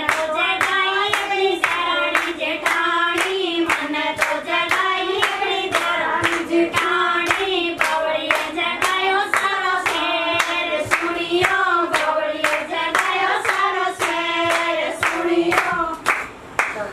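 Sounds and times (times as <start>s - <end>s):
women singing folk song: 0.0s - 16.1s
group clapping hands: 0.0s - 16.9s.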